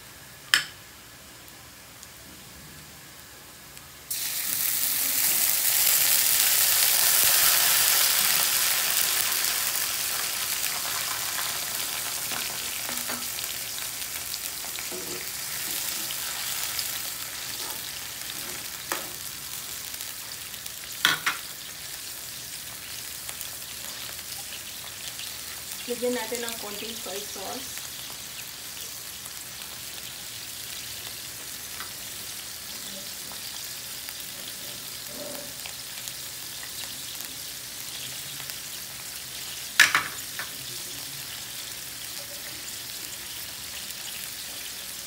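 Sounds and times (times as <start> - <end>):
food sizzling in a wok: 0.0 - 45.0.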